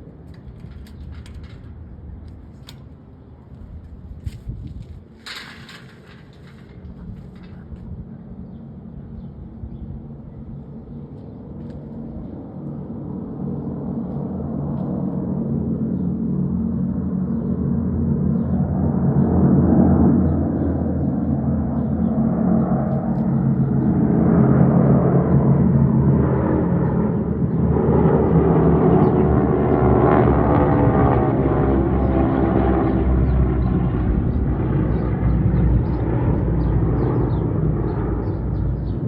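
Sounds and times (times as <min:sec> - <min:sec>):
propeller aircraft engines droning: 0:00.0 - 0:39.0.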